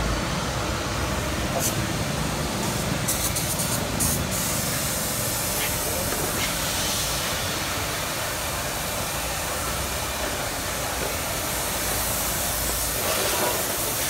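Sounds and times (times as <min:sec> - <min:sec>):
steady hiss: 0:02.6 - 0:14.0.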